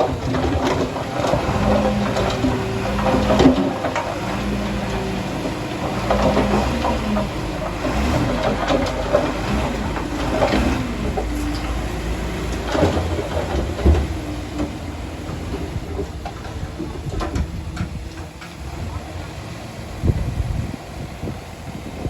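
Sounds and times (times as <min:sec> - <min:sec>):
metal clanks and knocks: 0:00.0 - 0:19.0
bulldozer engine rumble: 0:00.0 - 0:22.0.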